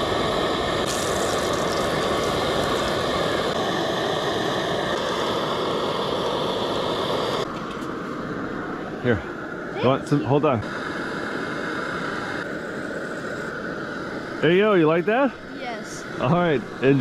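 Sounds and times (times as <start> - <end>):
camp stove burner hissing: 0.0 - 17.0.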